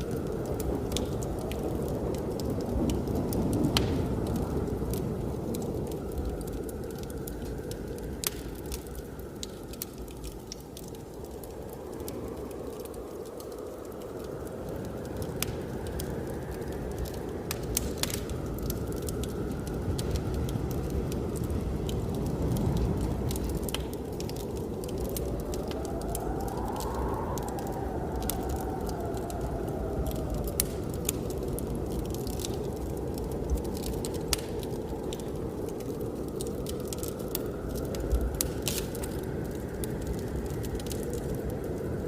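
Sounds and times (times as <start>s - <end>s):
blizzard wind whistling: 0.0s - 42.0s
wood fire crackling: 0.0s - 42.0s.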